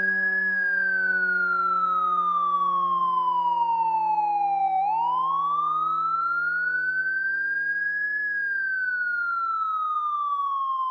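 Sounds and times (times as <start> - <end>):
fire truck siren wailing: 0.0 - 10.9.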